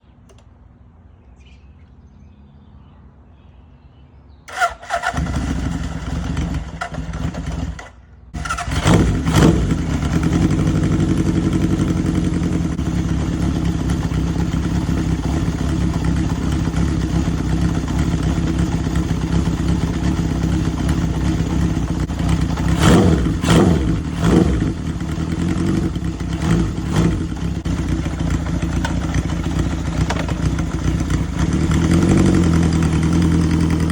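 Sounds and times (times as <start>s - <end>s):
motorcycle engine starting and idling: 4.5s - 33.9s.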